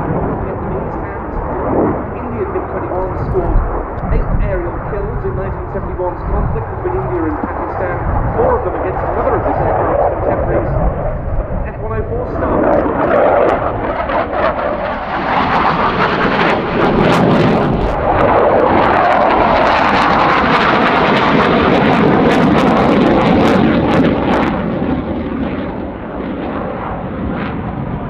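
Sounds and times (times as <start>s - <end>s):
jet engine rushing and crackling: 0.0s - 28.0s.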